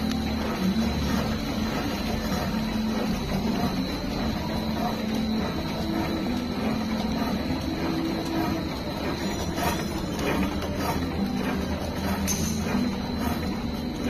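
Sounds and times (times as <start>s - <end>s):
machine whirring and clatter: 0.0s - 14.0s
thin high whine: 0.0s - 14.0s.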